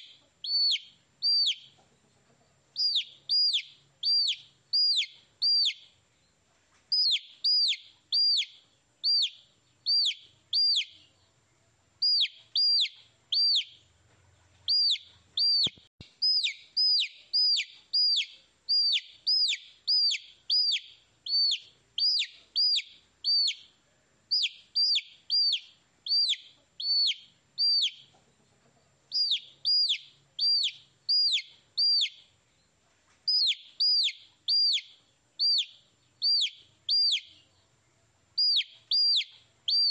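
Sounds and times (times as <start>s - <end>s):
baby chicks chirping: 0.0s - 32.4s, 33.1s - 39.9s.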